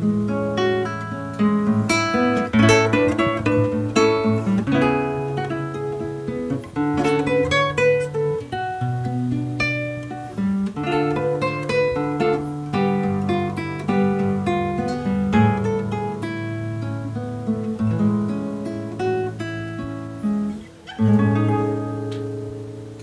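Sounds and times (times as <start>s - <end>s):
fingerstyle classical guitar: 0.0s - 23.0s.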